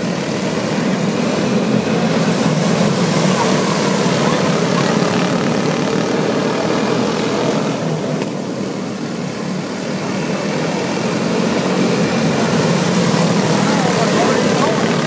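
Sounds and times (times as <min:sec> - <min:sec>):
race car engines buzzing: 0:00.0 - 0:15.0.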